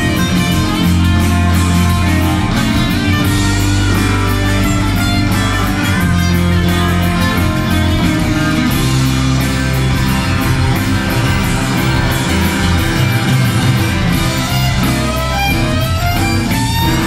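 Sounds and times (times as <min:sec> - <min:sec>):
drums: 0:00.0 - 0:17.0
electric bass: 0:00.0 - 0:17.0
fiddle sliding phrases: 0:00.0 - 0:17.0
organ: 0:00.0 - 0:17.0
strummed acoustic guitars: 0:00.0 - 0:17.0.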